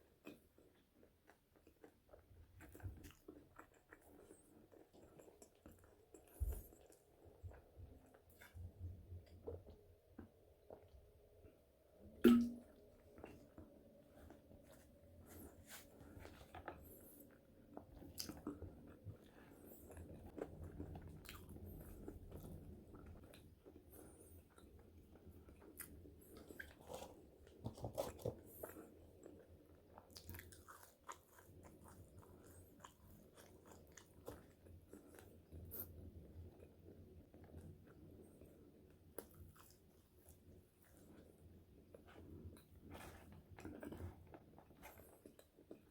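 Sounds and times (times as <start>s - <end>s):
chewing crunchy fries: 0.0s - 11.6s, 12.7s - 45.9s.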